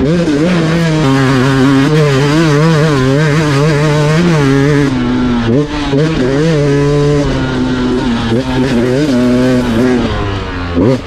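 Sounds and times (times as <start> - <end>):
dirt bike engine: 0.0 - 11.0.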